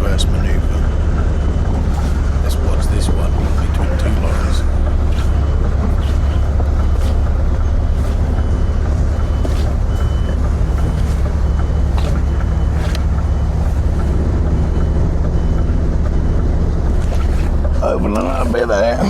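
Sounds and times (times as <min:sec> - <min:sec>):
diesel lorry engine running: 0:00.0 - 0:19.0
reversing alarm beeping: 0:00.0 - 0:19.0.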